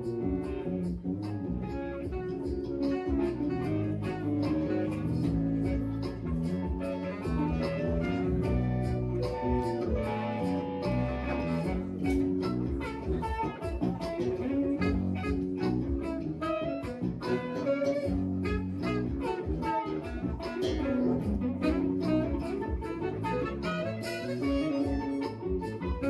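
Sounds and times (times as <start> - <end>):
bass: 0.0 - 26.0
electric guitar: 0.0 - 26.0
keyboards: 0.0 - 26.0
saxophone: 0.0 - 26.0
steady drum beat: 0.0 - 26.0.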